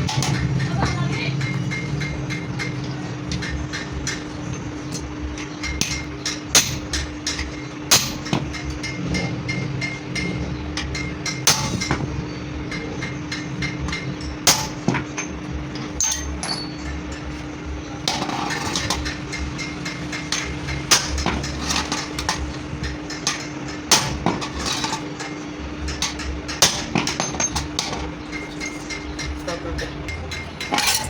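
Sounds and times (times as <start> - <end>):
hammer striking metal: 0.0 - 31.0
steady low hum: 0.0 - 31.0.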